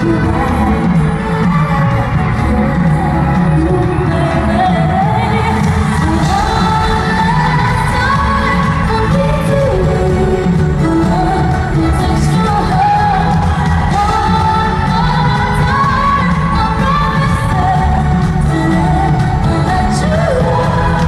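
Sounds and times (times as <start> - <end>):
pop band with drums and bass: 0.0 - 21.0
woman singing: 0.0 - 21.0.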